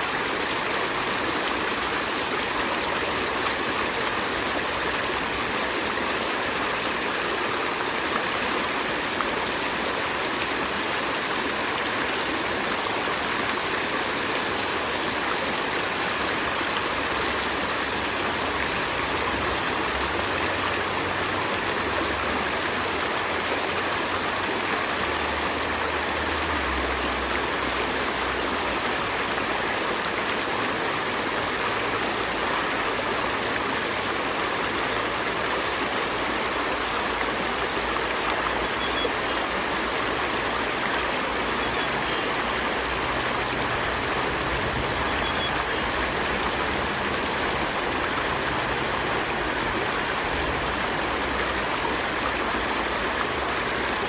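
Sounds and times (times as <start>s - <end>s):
river stream flowing: 0.0s - 54.0s.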